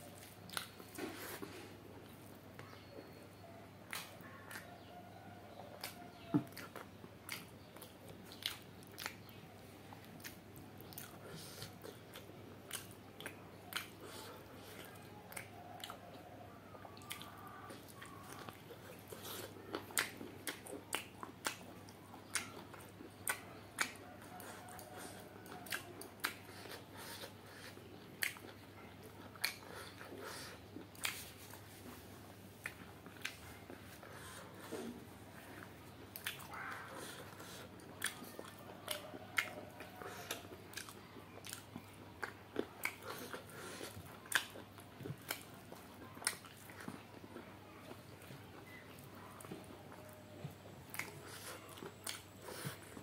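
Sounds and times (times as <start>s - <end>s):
wet chewing clicks and smacks: 0.1s - 1.0s, 3.8s - 4.9s, 5.5s - 53.0s.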